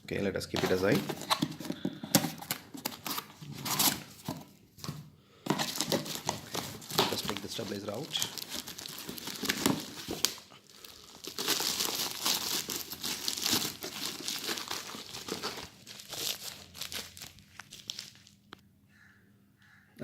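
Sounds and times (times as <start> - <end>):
packaging crinkling: 0.5 - 4.9, 5.5 - 18.6.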